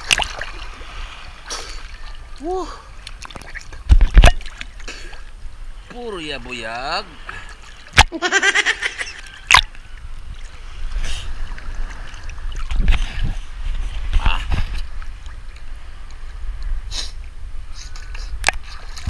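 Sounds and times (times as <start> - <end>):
water sloshing and splashing: 0.0 - 8.2, 8.8 - 16.4, 17.8 - 19.0.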